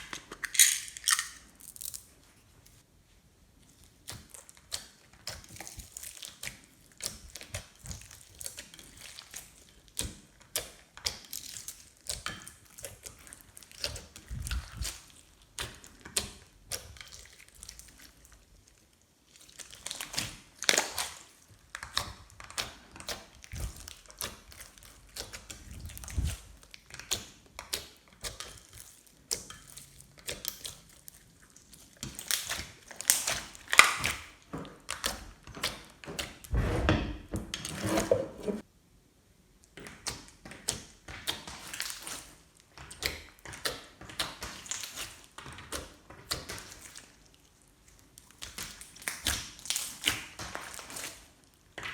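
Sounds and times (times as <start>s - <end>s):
slime squelch: 0.0s - 36.7s, 39.5s - 51.9s.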